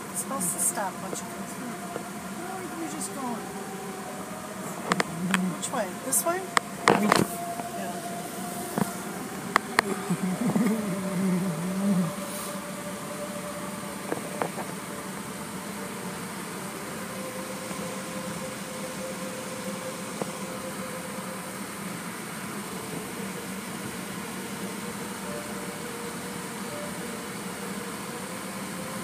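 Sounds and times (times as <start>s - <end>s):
mechanical hum inside car: 0.0s - 29.0s.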